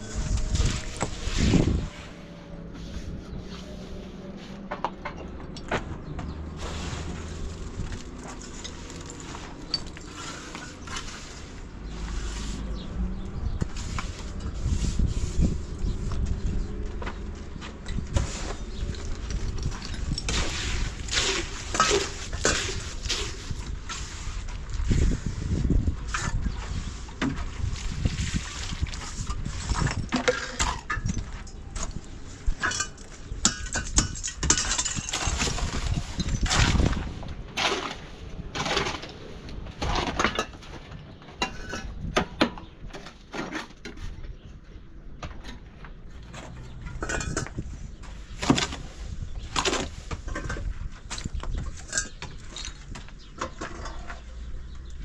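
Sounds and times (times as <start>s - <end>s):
building materials knocking and scraping: 4.6s - 55.0s.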